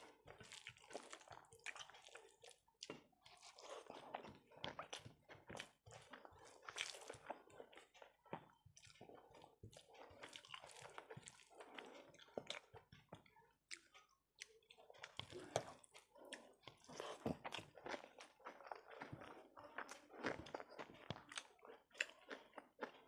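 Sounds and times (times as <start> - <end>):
faint chewing: 0.0 - 23.0.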